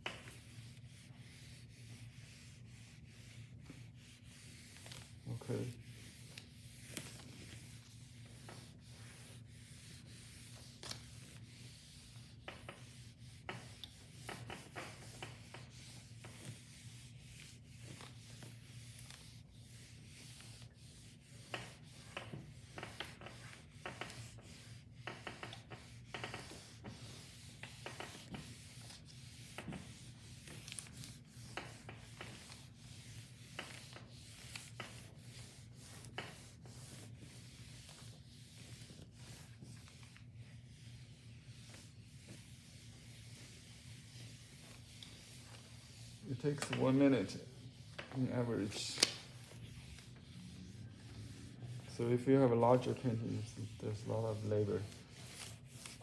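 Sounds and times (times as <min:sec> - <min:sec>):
iron rubbing on paper sheet: 0:00.0 - 0:56.0.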